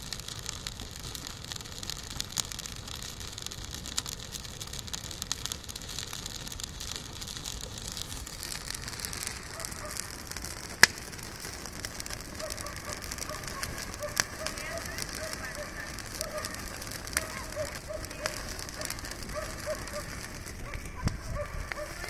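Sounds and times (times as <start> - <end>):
fire crackling and popping: 0.0 - 22.0
loud fire snap: 0.0 - 22.0.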